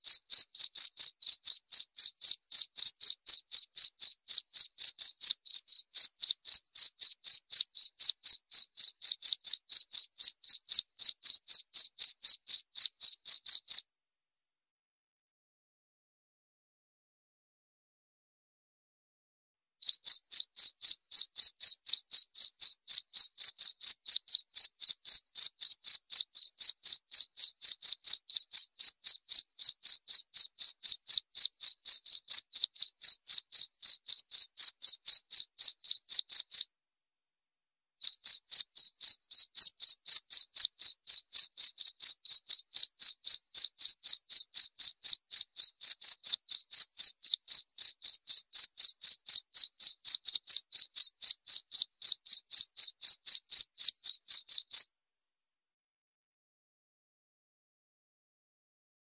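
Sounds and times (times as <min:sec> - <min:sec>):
cricket chirping: 0:00.0 - 0:13.8, 0:19.8 - 0:36.6, 0:38.0 - 0:54.8.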